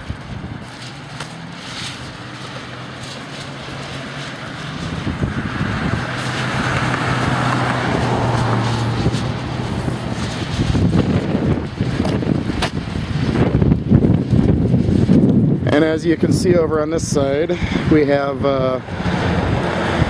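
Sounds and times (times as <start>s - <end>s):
vehicle passing on road: 0.0s - 20.0s.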